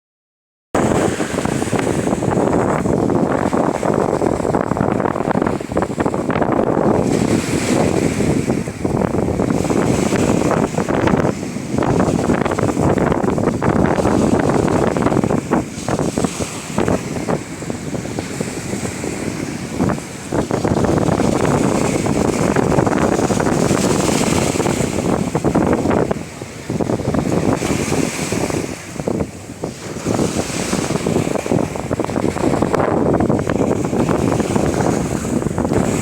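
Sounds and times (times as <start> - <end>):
sea waves washing ashore: 0.8 - 36.0
wind buffeting microphone: 0.8 - 36.0.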